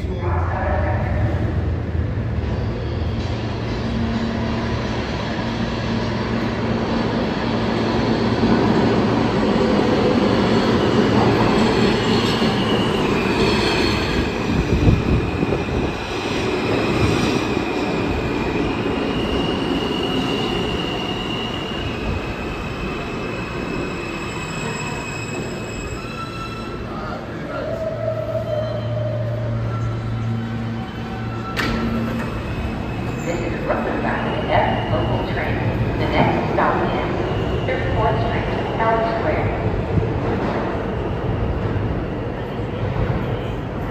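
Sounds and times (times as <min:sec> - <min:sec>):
subway train rumbling on rails: 0:00.0 - 0:43.9.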